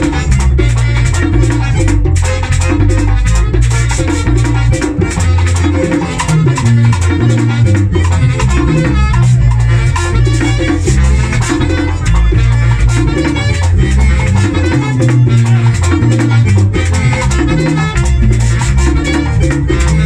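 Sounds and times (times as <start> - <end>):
button accordion: 0.0 - 20.0
live band playing fast groove: 0.0 - 20.0
rattling percussion: 0.0 - 20.0
saxophone: 0.0 - 20.0.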